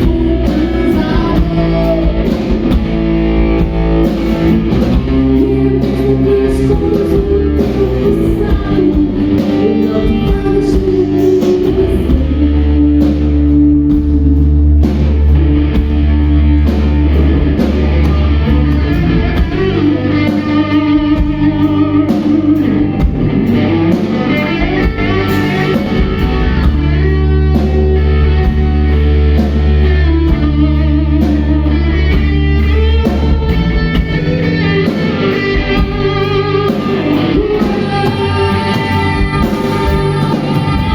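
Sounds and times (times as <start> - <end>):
electric guitar: 0.0 - 40.9
rock band playing: 0.0 - 40.9.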